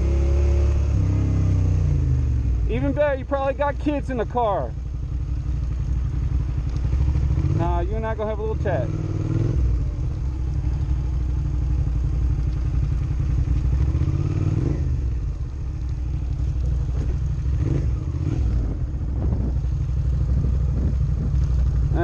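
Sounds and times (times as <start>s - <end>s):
motorcycle engine idling: 1.4s - 22.0s.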